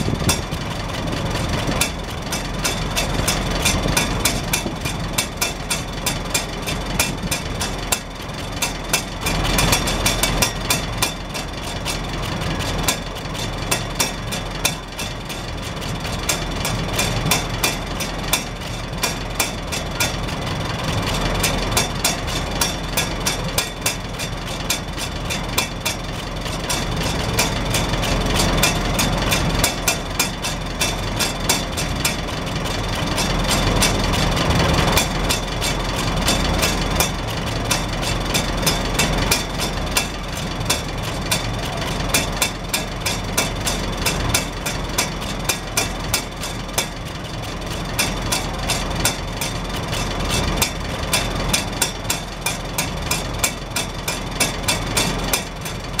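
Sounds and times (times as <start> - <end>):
exhaust rain cap ticking: 0.0 - 56.0
tractor engine idling: 0.0 - 56.0.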